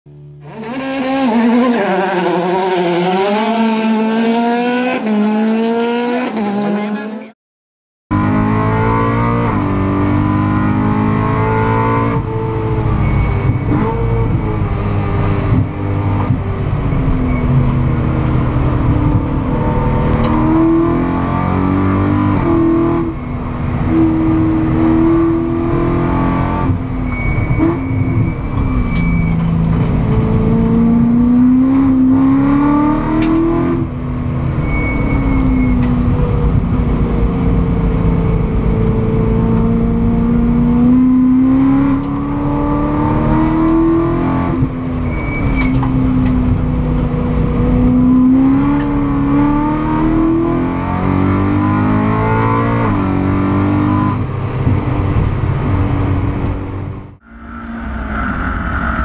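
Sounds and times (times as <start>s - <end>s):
race car engine revving: 0.4s - 7.3s, 8.1s - 45.1s, 45.7s - 59.0s.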